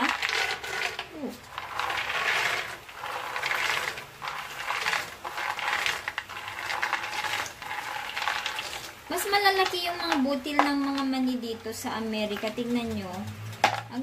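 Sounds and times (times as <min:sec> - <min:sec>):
peanuts clattering into pan: 0:00.0 - 0:14.0.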